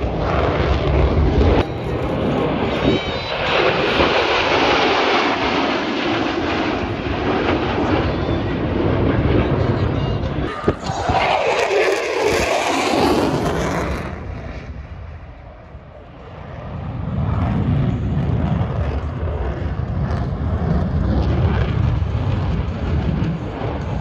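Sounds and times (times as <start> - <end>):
deep rumble of jet noise: 0.0 - 24.0
jet passing low: 0.0 - 24.0.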